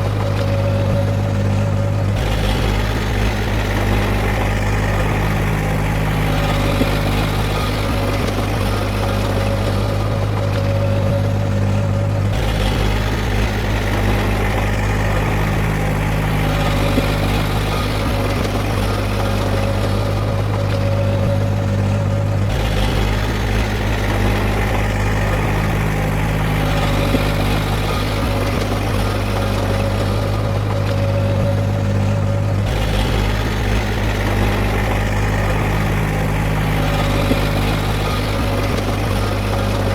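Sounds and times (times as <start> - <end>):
heavy diesel machinery engine running: 0.0 - 39.9.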